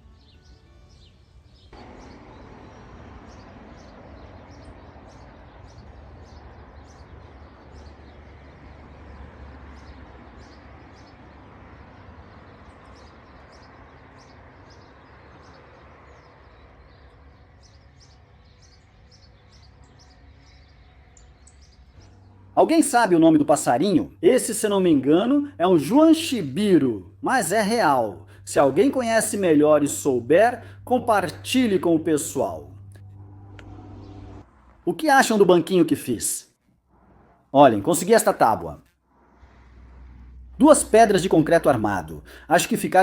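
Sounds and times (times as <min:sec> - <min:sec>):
songbird chirping: 0:00.0 - 0:36.2.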